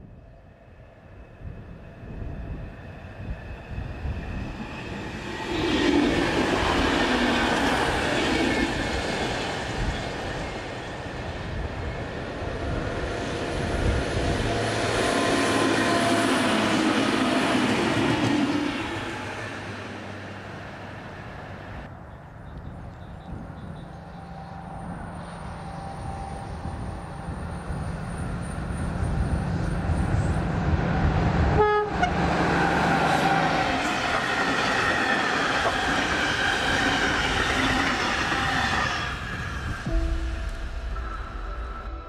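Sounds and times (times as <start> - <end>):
diesel train engine drone: 0.0 - 42.0
train wheel noise: 2.0 - 21.4, 23.8 - 42.0.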